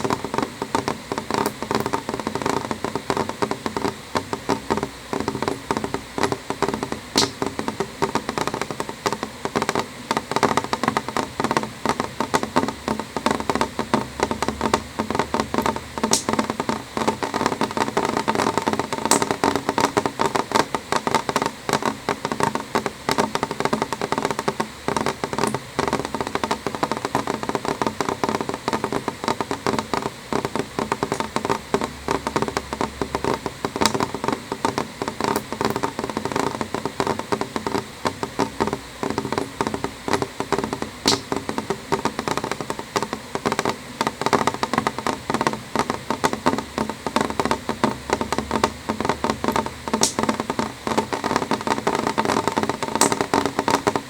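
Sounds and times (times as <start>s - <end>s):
rain tapping on window glass: 0.0s - 54.0s.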